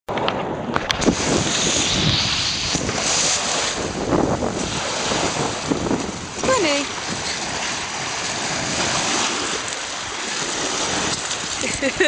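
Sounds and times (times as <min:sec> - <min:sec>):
waves on a pebble beach: 0:00.1 - 0:12.0
wind buffeting microphone: 0:00.1 - 0:12.0.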